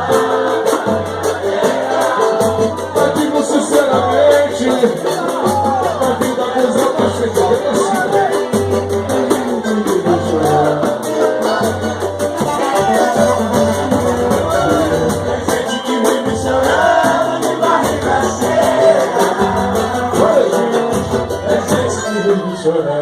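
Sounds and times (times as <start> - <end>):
bass line: 0.0 - 22.3
fast percussion rhythm: 0.0 - 22.5
person singing: 0.0 - 23.0.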